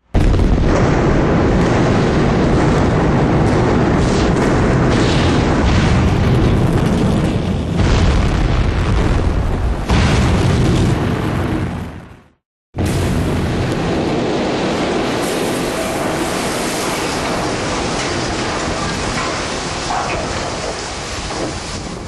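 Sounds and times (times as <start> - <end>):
explosion blast with rumble: 0.0 - 22.0.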